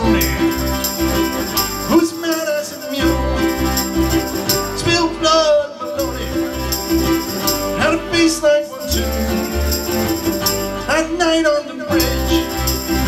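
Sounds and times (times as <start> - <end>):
tambourine jingling: 0.0 - 5.1, 5.8 - 11.2, 11.9 - 13.0
acoustic guitar: 0.0 - 13.0
ukuleles: 0.0 - 13.0.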